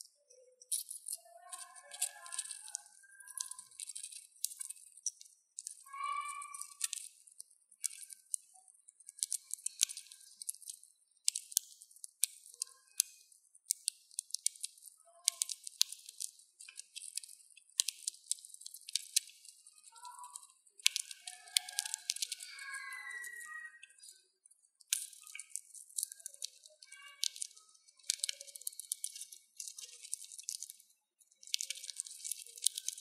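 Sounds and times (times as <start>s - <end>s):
hamster cracking seed shells: 0.0s - 33.0s.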